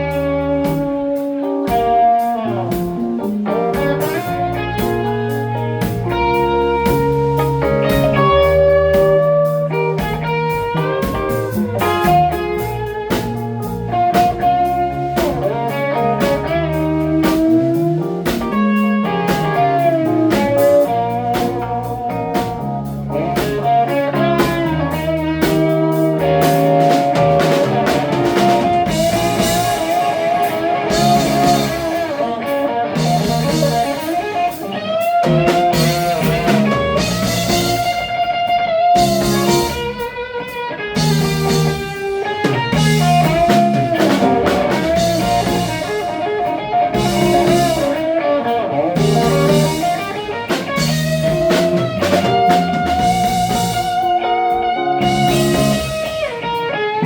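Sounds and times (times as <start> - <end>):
drums: 0.0 - 57.0
electric guitar bending notes: 0.0 - 57.0.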